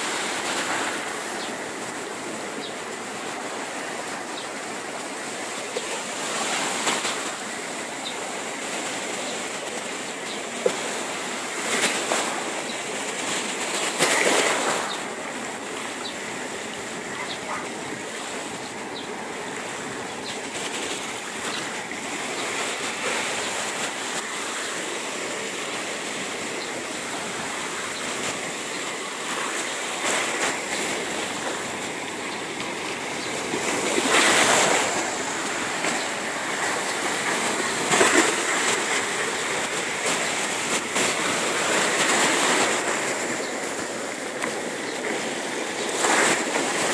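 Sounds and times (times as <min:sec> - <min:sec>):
water rushing along boat hull: 0:00.0 - 0:46.9.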